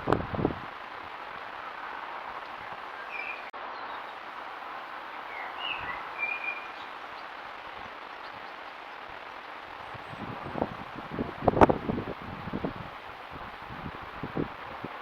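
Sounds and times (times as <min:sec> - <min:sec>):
outdoor background noise: 0:00.0 - 0:15.0
small birds chirping: 0:01.3 - 0:15.0.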